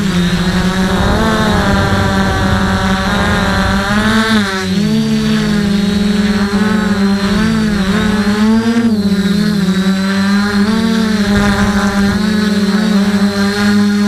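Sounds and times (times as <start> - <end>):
quadcopter motors humming: 0.0 - 14.0.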